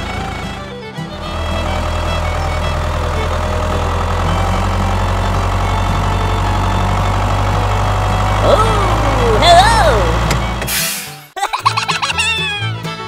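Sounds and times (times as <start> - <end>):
tractor engine droning: 0.0 - 11.1.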